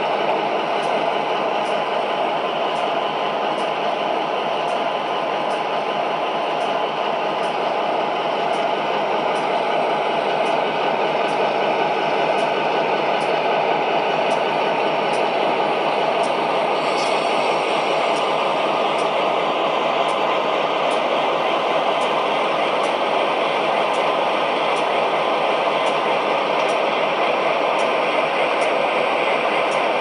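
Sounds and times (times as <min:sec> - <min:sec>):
model locomotive engine idling sound: 0:00.0 - 0:30.0.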